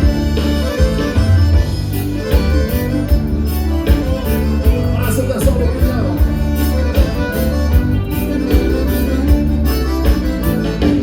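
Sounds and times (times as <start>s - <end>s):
accordion: 0.0s - 11.0s
bass: 0.0s - 11.0s
drums: 0.0s - 11.0s.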